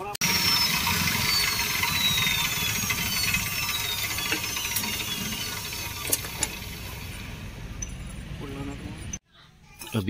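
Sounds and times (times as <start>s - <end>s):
engine whine: 0.0s - 9.2s.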